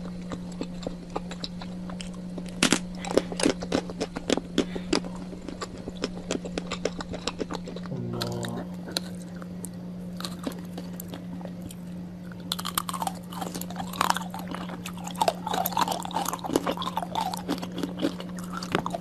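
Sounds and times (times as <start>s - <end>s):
person chewing and crunching: 0.0s - 19.0s
steady low hum: 0.0s - 19.0s.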